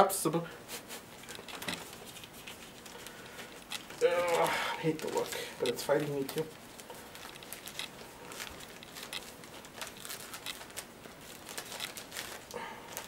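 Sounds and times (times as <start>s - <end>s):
plastic bag crinkling: 1.1s - 13.0s.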